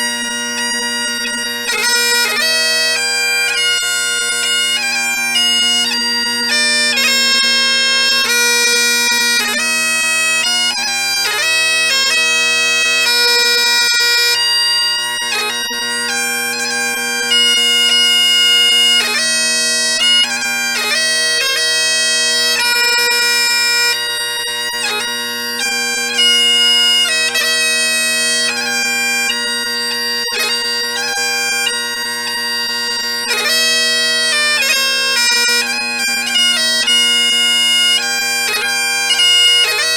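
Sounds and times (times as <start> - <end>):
bagpipes playing: 0.0 - 39.9.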